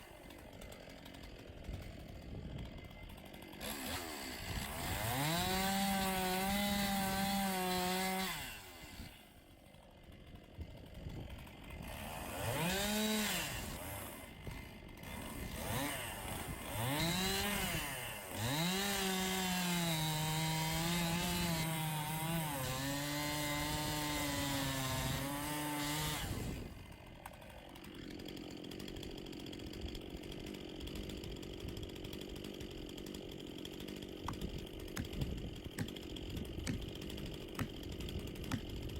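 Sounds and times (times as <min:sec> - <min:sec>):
chainsaw cutting wood: 0:00.0 - 0:38.9
chainsaw revving and idling: 0:00.0 - 0:38.9.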